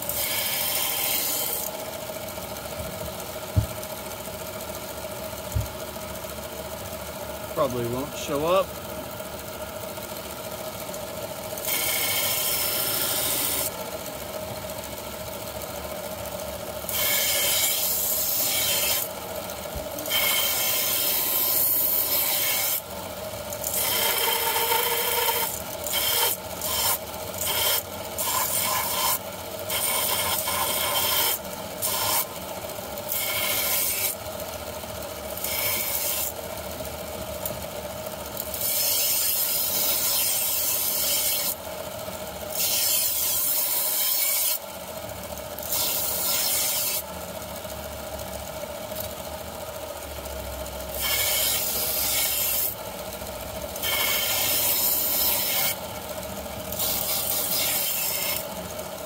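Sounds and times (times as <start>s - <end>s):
blade rasping on grinder belt: 0.0s - 3.9s, 10.2s - 14.7s, 15.7s - 37.6s, 38.2s - 47.1s, 50.8s - 59.0s
belt grinder running: 0.0s - 59.0s.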